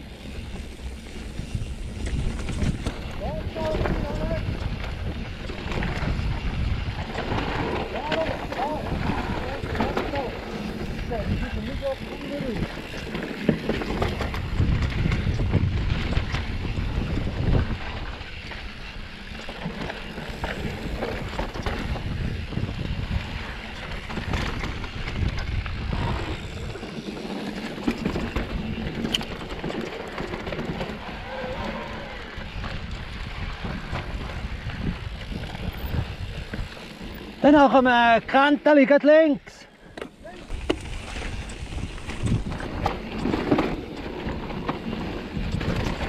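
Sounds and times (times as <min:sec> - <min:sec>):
wind on microphone: 0:00.0 - 0:18.8, 0:20.2 - 0:27.0, 0:27.6 - 0:37.5, 0:40.1 - 0:46.0
bike tyres rumbling on rough trail: 0:00.0 - 0:46.0.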